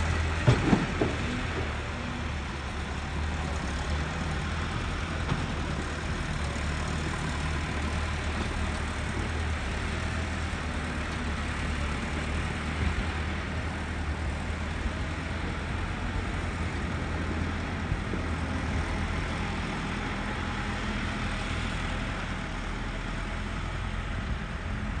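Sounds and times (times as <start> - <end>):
tractor engine humming: 0.0 - 25.0.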